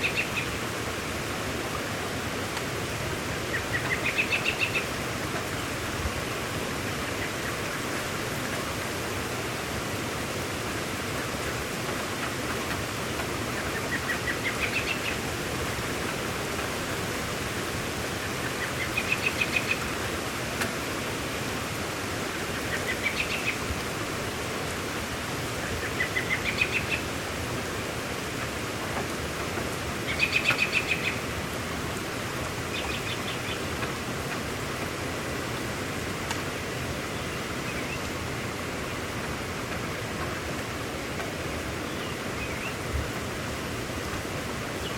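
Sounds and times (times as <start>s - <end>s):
rain hiss: 0.0s - 44.9s.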